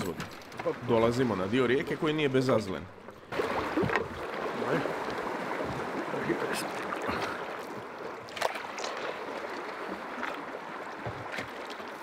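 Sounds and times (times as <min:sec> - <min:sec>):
river water rushing and splashing: 0:00.0 - 0:12.0
water slapping boat hull: 0:00.0 - 0:12.0.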